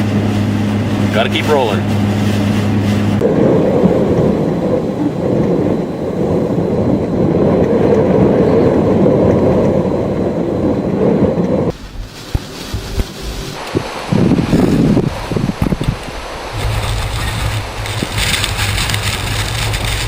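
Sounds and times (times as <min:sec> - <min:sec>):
hurricane wind and rain roaring: 0:00.0 - 0:20.0
tyres on wet pavement: 0:00.0 - 0:20.0.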